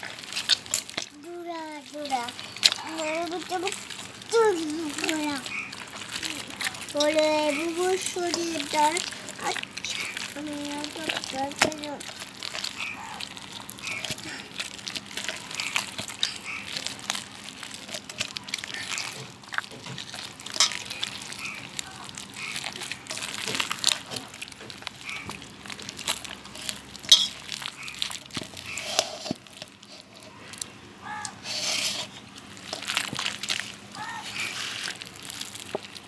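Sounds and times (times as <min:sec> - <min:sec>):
small clicks and sloshes: 0:00.0 - 0:31.4, 0:32.0 - 0:36.0
fruit pulp squelching by hand: 0:00.0 - 0:36.0.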